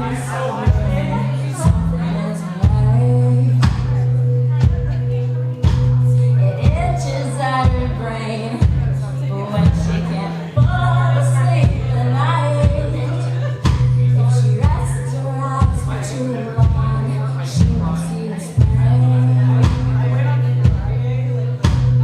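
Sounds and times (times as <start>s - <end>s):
person singing: 0.0s - 21.1s
live rock band playing: 0.0s - 22.0s.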